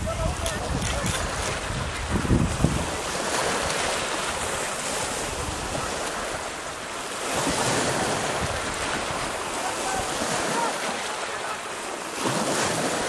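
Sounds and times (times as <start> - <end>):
wind rumbling on microphone: 0.0 - 10.5
sea surf washing ashore: 0.0 - 13.0.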